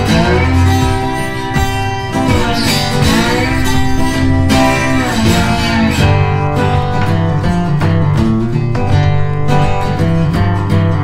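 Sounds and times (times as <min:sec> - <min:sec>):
guitar background music: 0:00.0 - 0:11.0
steady bass notes: 0:00.0 - 0:11.0.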